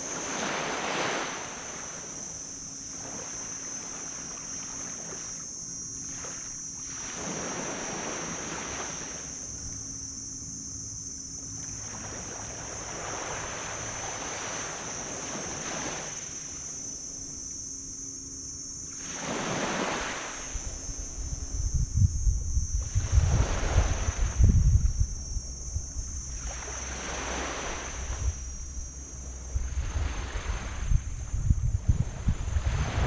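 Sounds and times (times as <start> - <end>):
small waves washing on beach: 0.0 - 9.6, 11.5 - 17.7, 18.8 - 21.5, 22.8 - 24.6, 26.0 - 33.0
high-pitched insect drone: 0.0 - 33.0
faint low hum: 1.5 - 33.0.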